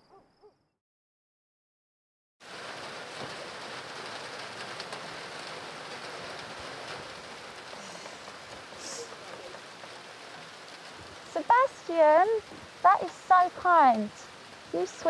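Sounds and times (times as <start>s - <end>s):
steady rain falling: 2.4s - 15.0s.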